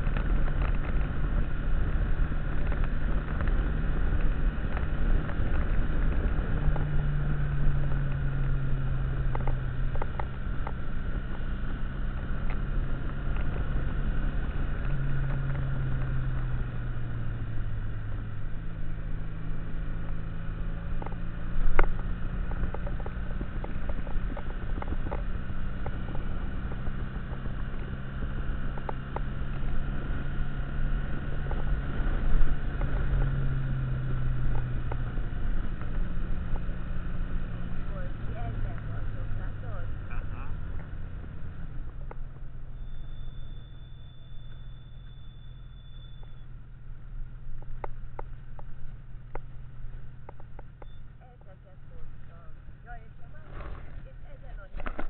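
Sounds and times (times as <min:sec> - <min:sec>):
motorcycle engine running: 0:00.0 - 0:55.0
wind and road rumble: 0:00.0 - 0:55.0.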